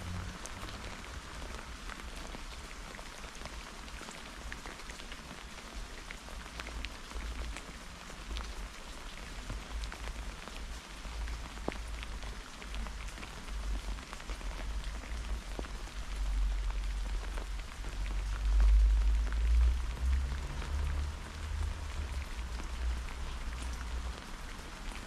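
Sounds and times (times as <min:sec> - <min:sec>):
heavy rain hiss: 0:00.0 - 0:06.8, 0:07.4 - 0:25.0
raindrops ticking: 0:00.0 - 0:25.0.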